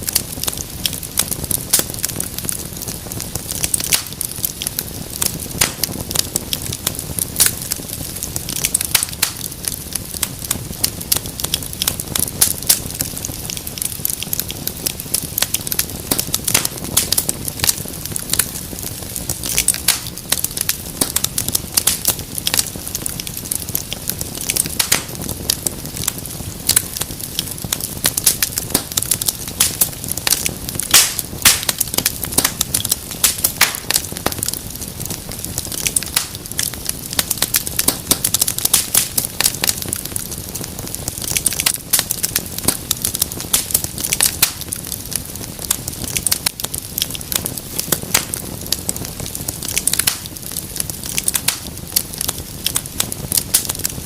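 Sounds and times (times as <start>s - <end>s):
fire crackling and popping: 0.0s - 54.0s
low rumble of burning: 0.0s - 54.0s.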